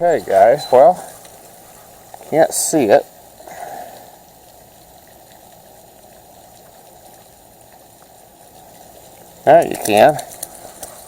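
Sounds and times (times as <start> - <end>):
faint steady noise: 0.0 - 11.0.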